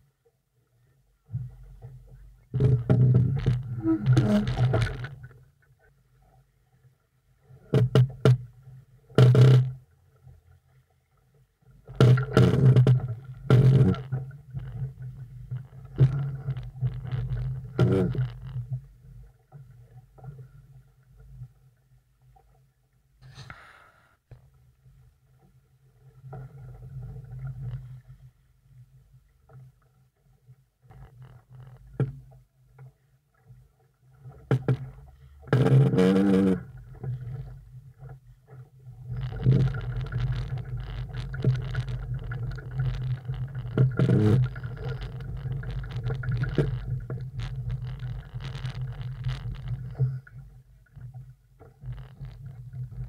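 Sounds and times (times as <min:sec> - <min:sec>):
choppy water: 0:00.0 - 0:53.0
low uneven rumble: 0:00.0 - 0:53.0.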